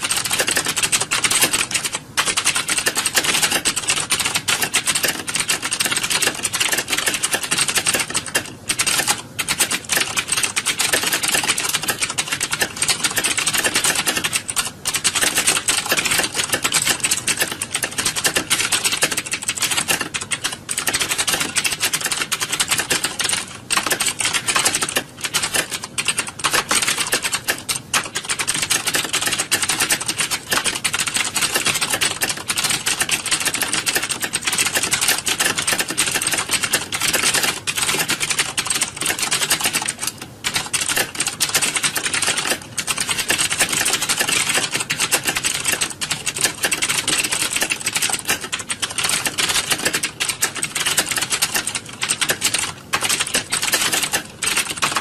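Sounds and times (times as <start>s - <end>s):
many keyboards typing: 0.0s - 55.0s.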